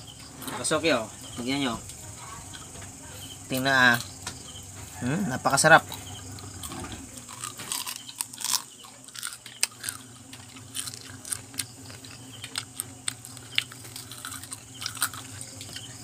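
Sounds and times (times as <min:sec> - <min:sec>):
crunchy chewing: 0:00.0 - 0:16.0
faint low hum: 0:00.0 - 0:16.0.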